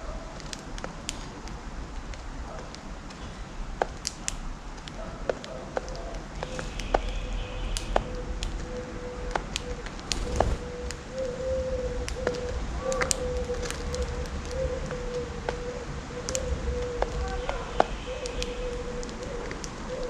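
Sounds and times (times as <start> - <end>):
birds pecking seeds: 0.0 - 20.0.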